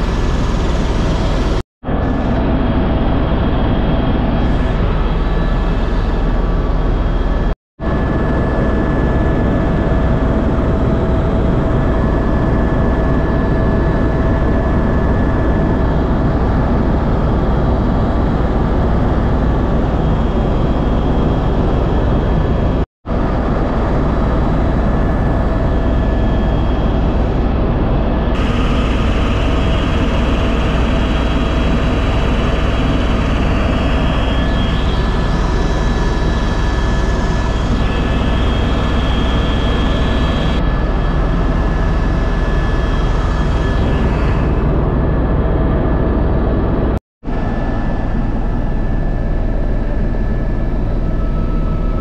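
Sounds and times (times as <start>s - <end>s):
helicopter engine and rotor: 0.0s - 52.0s.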